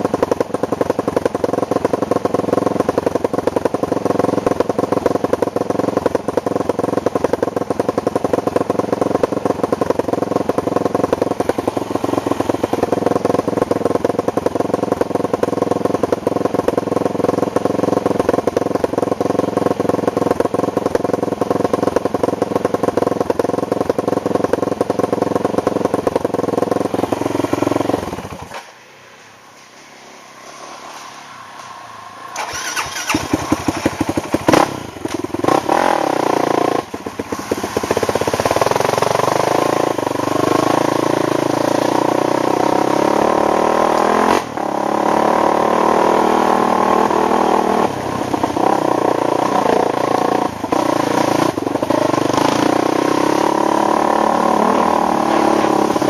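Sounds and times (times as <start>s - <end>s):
atv engine revving: 0.0s - 28.8s, 30.1s - 56.0s
atv engine running: 0.0s - 28.9s, 30.3s - 56.0s.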